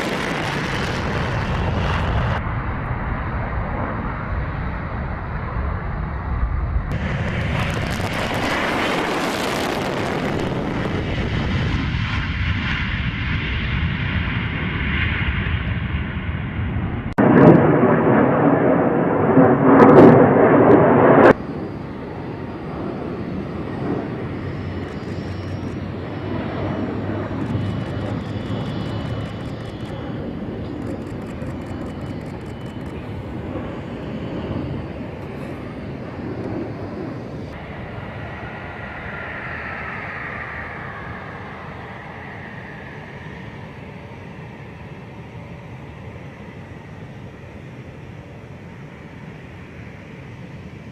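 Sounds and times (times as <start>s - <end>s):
falling whine: 0.0s - 50.9s
jet engine roar: 0.0s - 50.9s.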